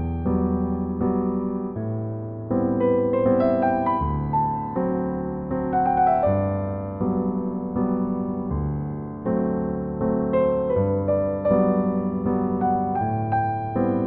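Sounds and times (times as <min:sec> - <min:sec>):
slow soft piano music: 0:00.0 - 0:14.0.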